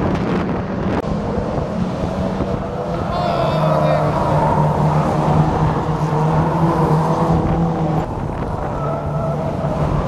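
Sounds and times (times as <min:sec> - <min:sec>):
racing car engines droning: 0:00.0 - 0:10.0.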